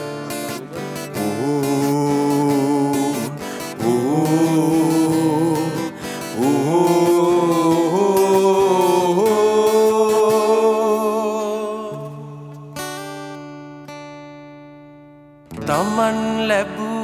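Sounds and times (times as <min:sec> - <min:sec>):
man singing long wavering notes: 0:00.0 - 0:13.2, 0:15.6 - 0:17.0
acoustic guitar: 0:00.0 - 0:17.0.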